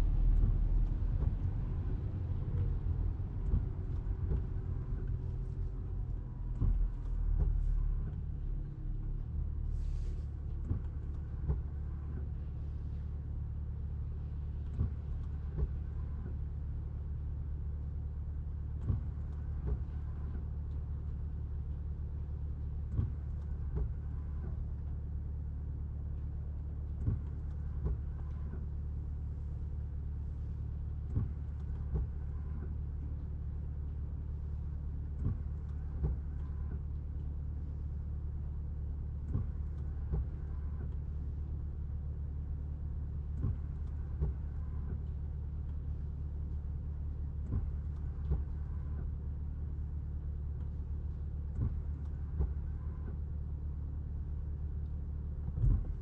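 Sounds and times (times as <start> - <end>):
low hum: 0.0 - 56.0
low rumble inside car cabin: 0.0 - 56.0.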